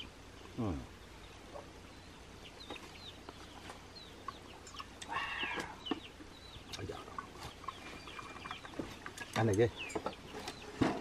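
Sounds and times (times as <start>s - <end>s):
chickens clucking: 1.2s - 11.0s.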